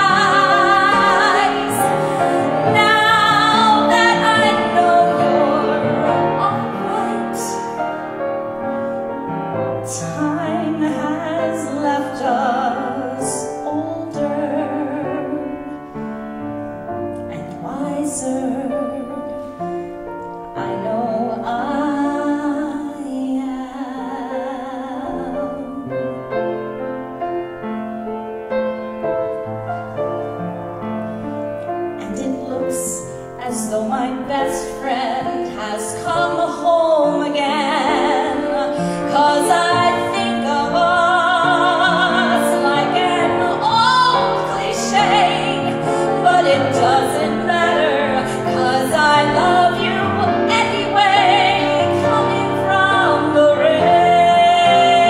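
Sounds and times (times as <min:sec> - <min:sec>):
woman singing with vibrato: 0:00.0 - 0:07.8, 0:09.8 - 0:15.6, 0:17.3 - 0:19.4, 0:20.6 - 0:26.1, 0:32.0 - 0:55.0
grand piano: 0:00.0 - 0:55.0.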